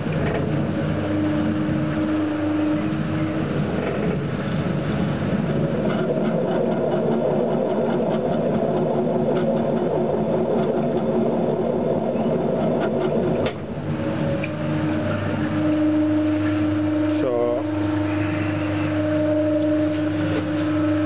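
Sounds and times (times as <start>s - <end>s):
potter's wheel whirring hum: 0.0s - 21.0s.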